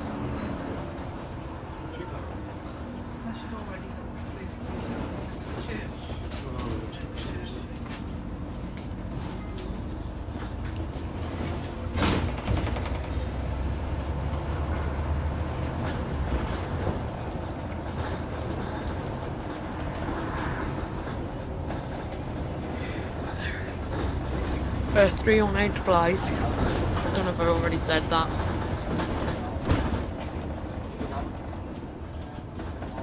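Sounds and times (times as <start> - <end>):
bus diesel engine drone: 0.0 - 33.0.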